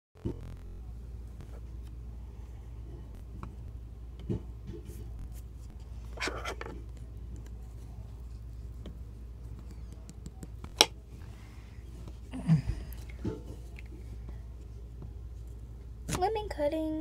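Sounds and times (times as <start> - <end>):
low steady hum: 0.2 - 17.0.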